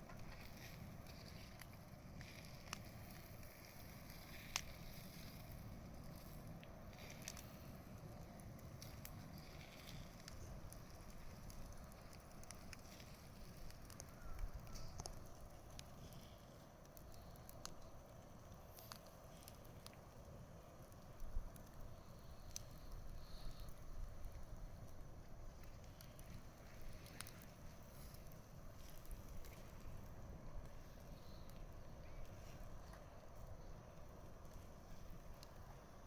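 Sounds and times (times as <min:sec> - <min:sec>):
bonfire crackling: 0:00.0 - 0:36.0.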